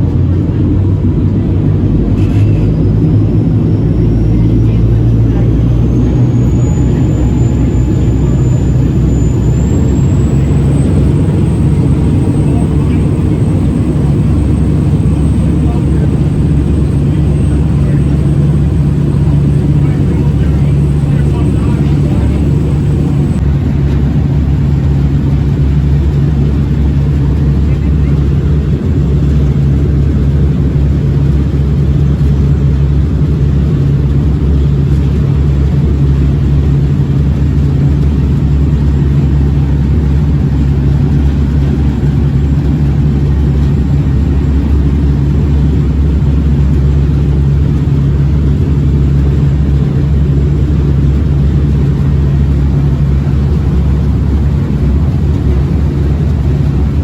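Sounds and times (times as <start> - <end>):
boat engines droning: 0.0 - 57.0.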